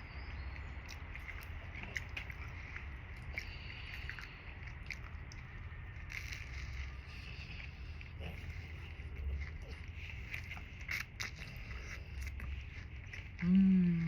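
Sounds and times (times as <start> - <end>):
low steady hum: 0.0 - 14.0
person chewing food: 0.0 - 14.0.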